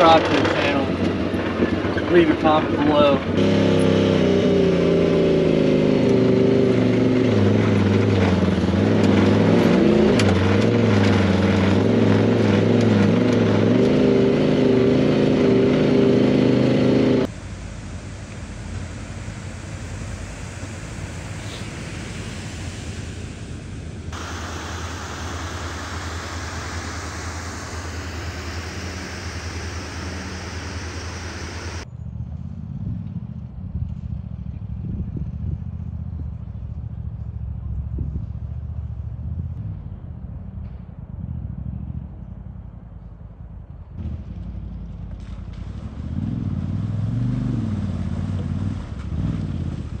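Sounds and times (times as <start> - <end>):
vehicle engine running: 0.0 - 50.0
wind and trail noise: 0.0 - 50.0.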